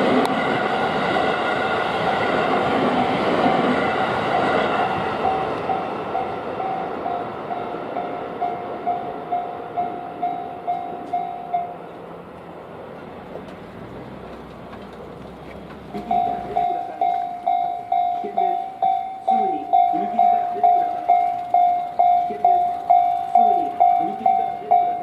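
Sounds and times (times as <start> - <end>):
crossing warning bell ringing: 0.0 - 12.3, 14.9 - 25.0
train rumbling past: 0.0 - 25.0.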